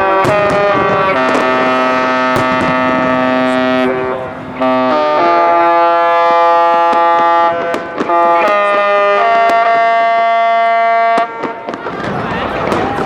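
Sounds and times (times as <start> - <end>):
ship horns sounding chords: 0.0 - 11.7.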